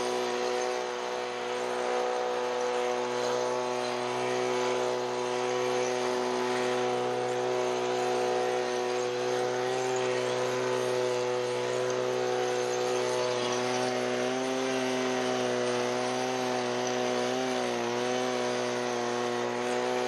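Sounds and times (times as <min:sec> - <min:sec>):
motor running steadily: 0:00.0 - 0:20.0.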